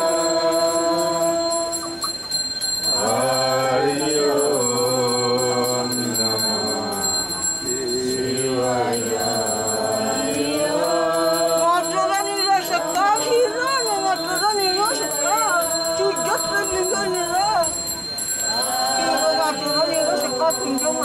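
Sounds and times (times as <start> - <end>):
bell ringing: 0.0 - 21.0
voices singing a chant: 0.0 - 21.0.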